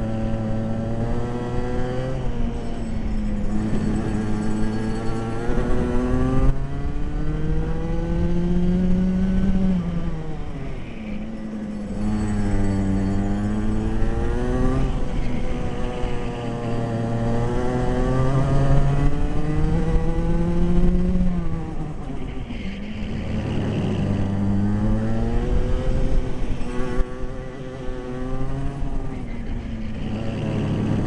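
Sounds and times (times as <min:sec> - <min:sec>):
racing kart engine revving: 0:00.0 - 0:31.0.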